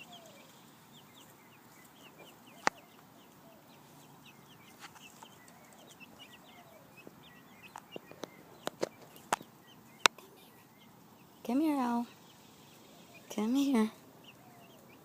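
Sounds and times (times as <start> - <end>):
young hens cheeping: 0.0 - 15.0.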